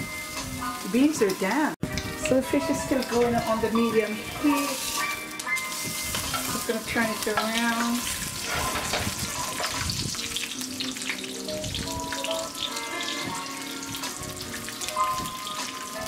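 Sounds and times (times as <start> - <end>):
fish sizzling in a frying pan: 0.0 - 16.0
soft background music: 0.0 - 16.0.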